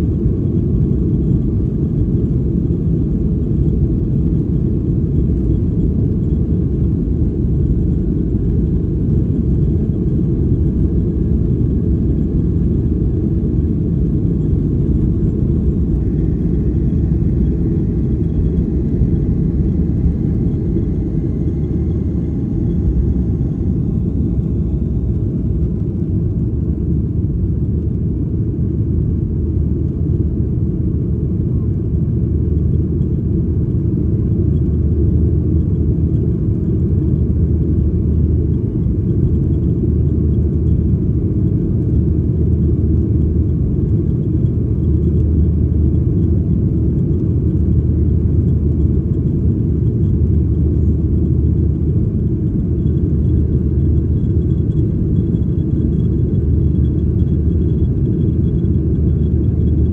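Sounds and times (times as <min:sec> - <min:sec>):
jet engines low rumble: 0:00.0 - 0:59.9.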